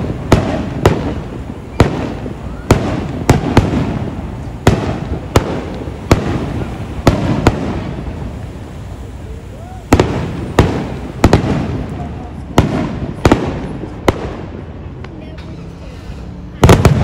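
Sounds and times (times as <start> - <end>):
fireworks booming with echo: 0.0 - 17.0.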